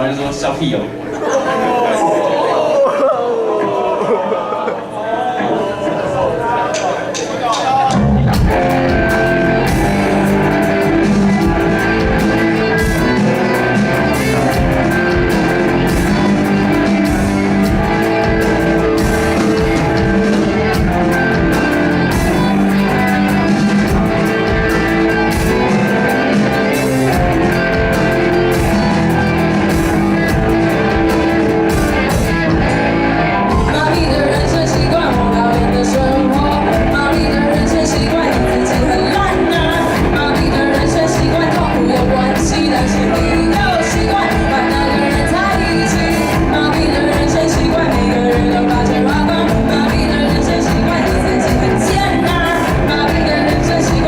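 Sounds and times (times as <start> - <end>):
rock band playing live: 7.2 - 54.0.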